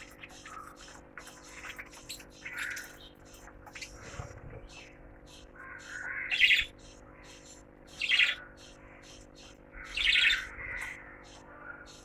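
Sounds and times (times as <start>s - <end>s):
lovebirds harsh calls: 0.0s - 12.0s
lovebirds high chirps: 0.0s - 12.0s.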